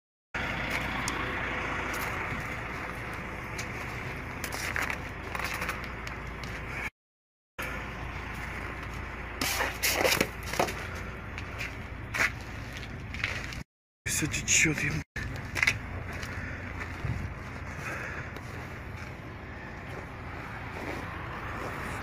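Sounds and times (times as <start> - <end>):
truck engines idling: 0.4 - 6.9, 7.6 - 22.0.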